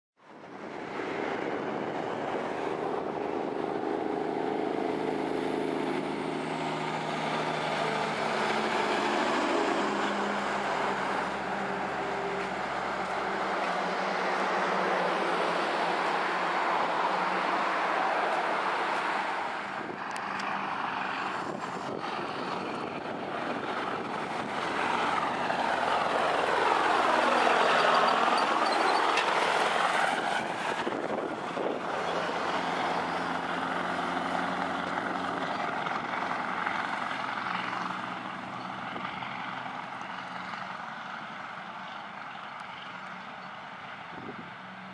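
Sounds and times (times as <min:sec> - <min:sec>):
tyre and road noise: 0:00.2 - 0:44.9
diesel trucks driving past: 0:00.3 - 0:44.9.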